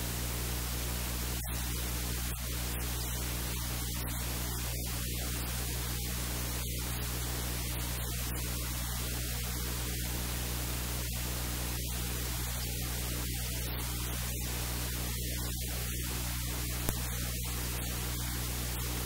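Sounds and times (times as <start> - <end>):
electrical hiss: 0.0 - 19.0.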